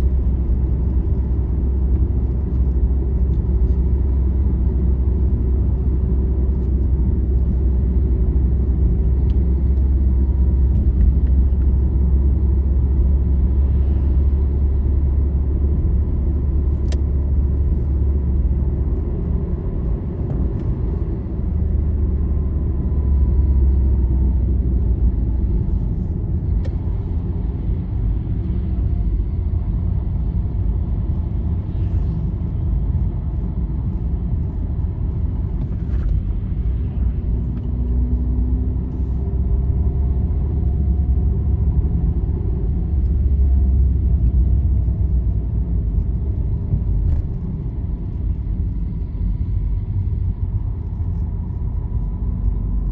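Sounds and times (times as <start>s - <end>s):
vehicle road and engine rumble: 0.0s - 52.9s.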